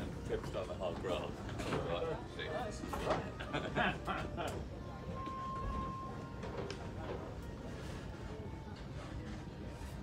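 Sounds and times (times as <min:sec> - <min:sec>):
faint music: 0:00.0 - 0:10.0.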